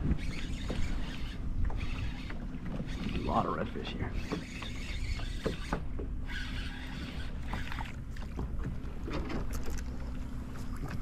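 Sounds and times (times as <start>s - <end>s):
water lapping against hull: 0.0s - 11.0s.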